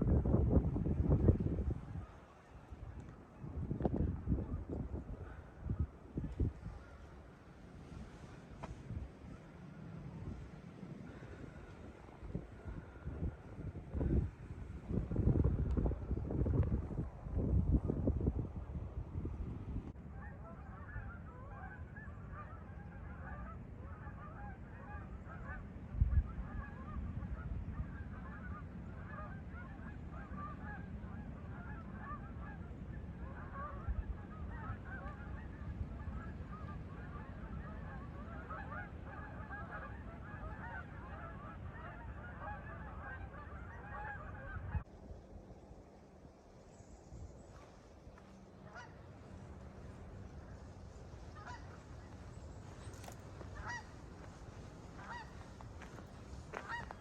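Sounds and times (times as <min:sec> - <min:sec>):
wind rumble on microphone: 0:00.0 - 0:57.0
geese honking: 0:00.8 - 0:14.2, 0:20.1 - 0:44.9, 0:47.5 - 0:57.0.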